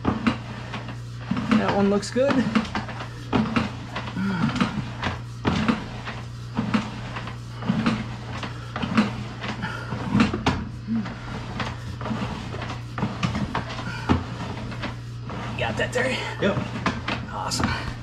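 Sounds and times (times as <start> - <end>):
clunks and knocks of cable reel: 0.0 - 18.0
steady low hum: 0.0 - 18.0.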